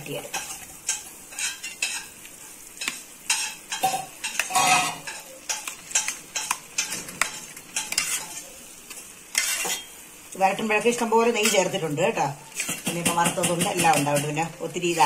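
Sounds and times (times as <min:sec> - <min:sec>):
spoon scraping metal pan: 0:00.3 - 0:02.2, 0:02.8 - 0:08.5, 0:09.3 - 0:10.0, 0:11.2 - 0:15.0.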